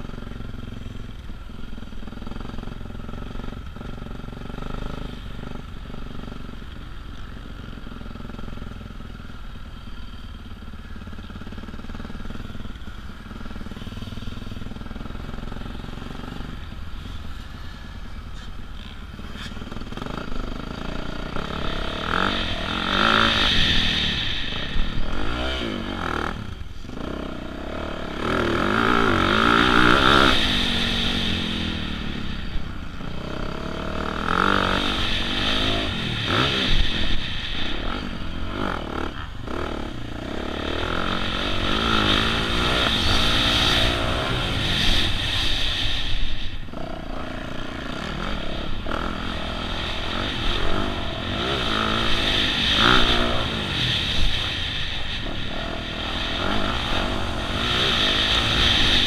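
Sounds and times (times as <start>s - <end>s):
dirt bike engine revving: 9.8s - 59.0s.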